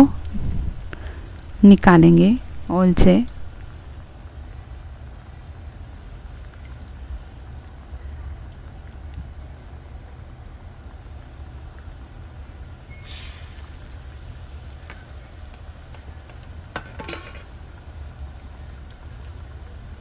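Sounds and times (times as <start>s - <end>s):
batter sizzling in ghee: 3.5s - 20.0s.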